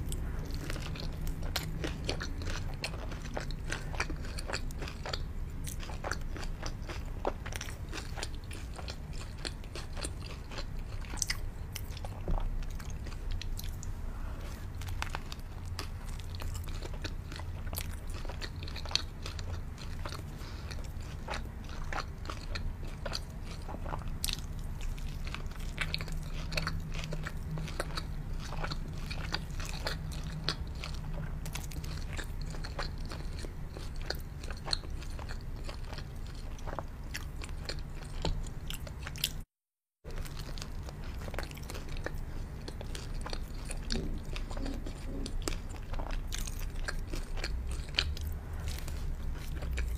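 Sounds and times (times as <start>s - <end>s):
biting and chewing food: 0.0s - 49.9s.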